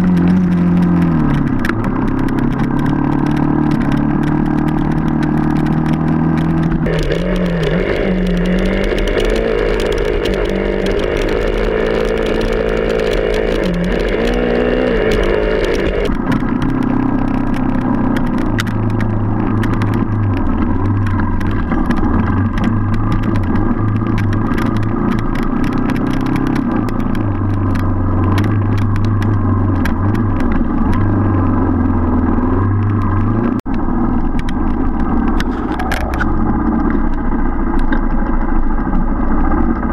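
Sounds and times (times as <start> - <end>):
motorcycle clattering over rough ground: 0.0 - 39.9
motorcycle engine revving: 0.0 - 39.9.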